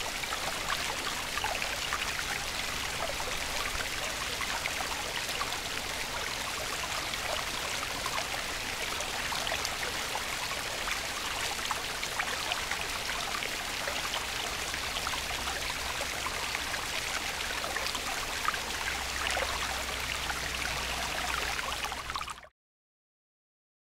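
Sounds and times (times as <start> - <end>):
stream babbling: 0.0 - 22.4.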